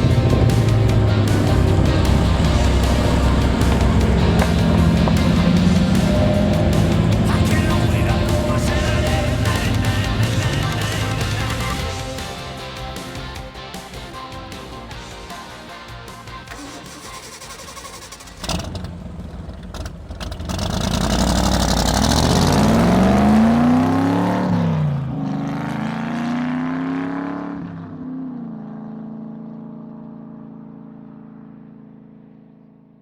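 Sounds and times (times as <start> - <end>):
racing car engine accelerating: 0.0 - 14.9, 16.4 - 32.1.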